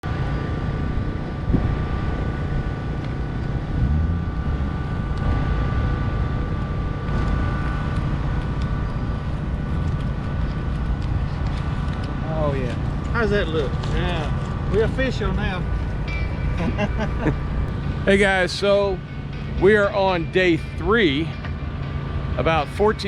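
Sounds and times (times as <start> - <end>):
faint steady whine: 0.0 - 23.0
vehicle engine and road noise: 0.0 - 23.0.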